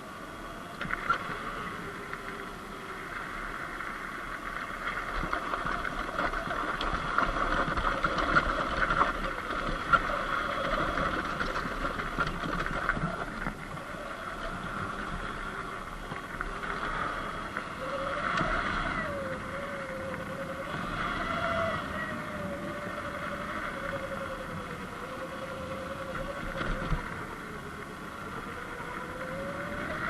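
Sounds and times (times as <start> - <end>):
electric motor and chain whine: 0.0 - 30.0
wind rumble on microphone: 0.0 - 30.0.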